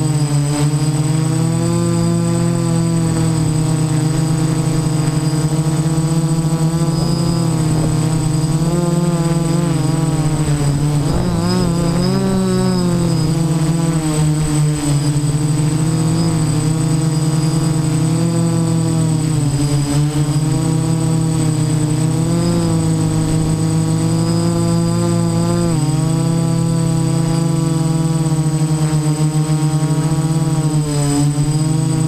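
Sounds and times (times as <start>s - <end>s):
drone motors buzzing: 0.0s - 32.0s
thin high whine: 0.0s - 32.0s.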